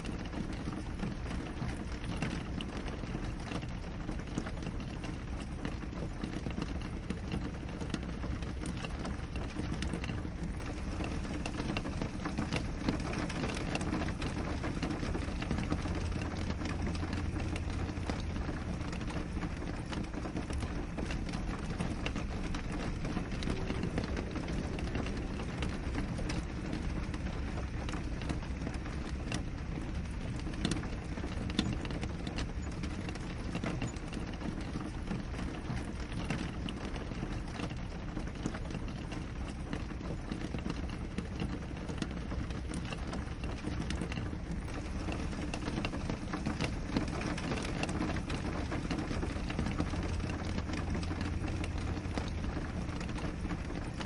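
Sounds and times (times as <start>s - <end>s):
rain on a window pane: 0.0s - 54.0s.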